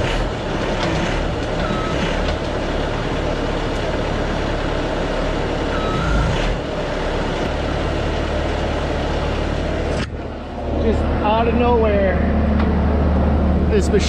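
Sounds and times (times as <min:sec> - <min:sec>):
skid loader engine running: 0:00.0 - 0:14.0.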